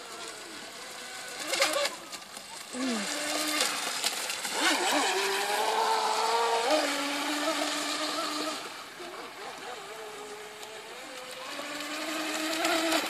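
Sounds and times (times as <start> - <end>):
rc boat electric motor whining: 0.0 - 13.0.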